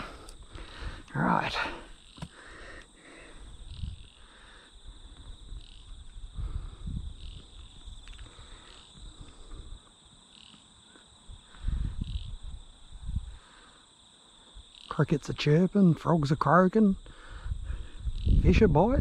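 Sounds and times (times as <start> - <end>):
crickets chirping: 0.0 - 19.0
frogs croaking: 0.0 - 19.0.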